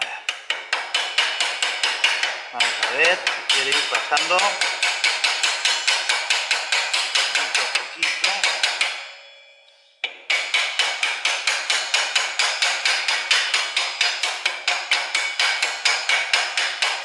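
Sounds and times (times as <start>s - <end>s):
mallet tapping rapidly on metal: 0.0s - 9.2s, 10.0s - 17.0s
metallic ringing: 0.0s - 17.0s.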